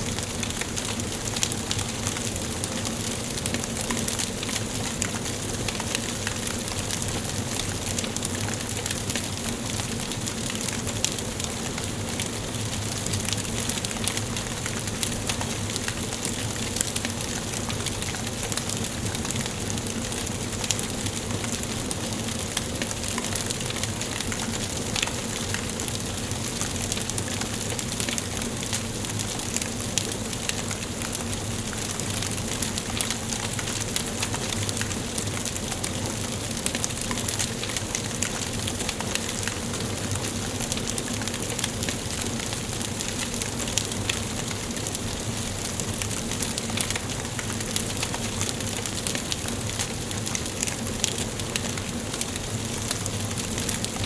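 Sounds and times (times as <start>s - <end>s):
wood fire crackling and hissing: 0.0s - 54.0s.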